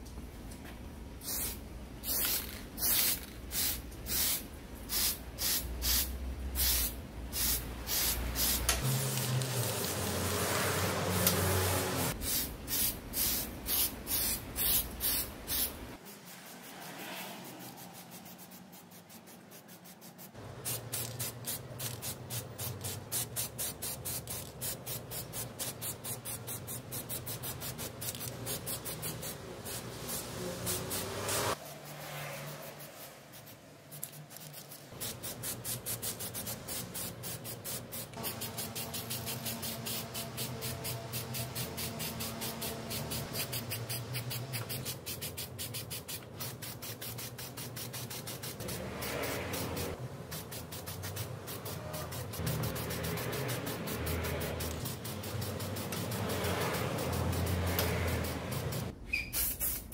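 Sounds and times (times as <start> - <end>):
aerosol spray can spraying: 1.2 - 59.9.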